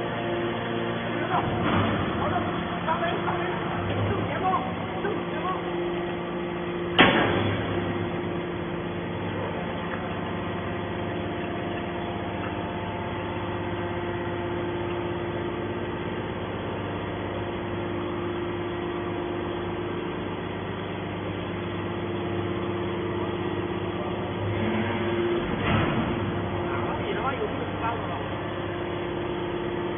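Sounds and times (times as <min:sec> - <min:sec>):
hydraulic power unit droning: 0:00.0 - 0:29.9.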